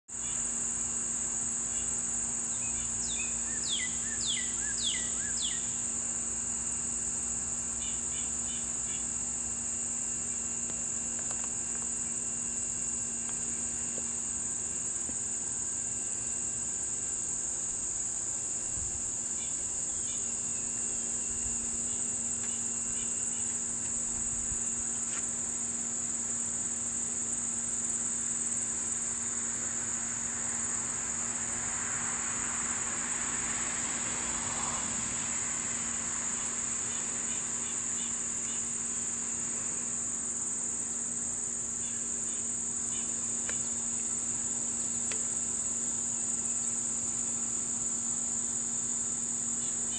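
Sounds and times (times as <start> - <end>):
insect chorus: 0.1 - 49.9.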